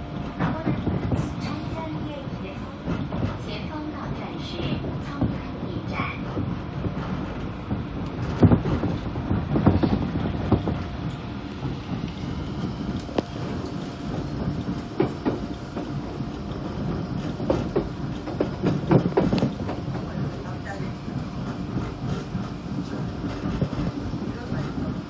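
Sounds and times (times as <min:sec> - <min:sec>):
clacks over rail joints: 0:00.0 - 0:25.0
train wheels rumbling on rail: 0:00.0 - 0:25.0.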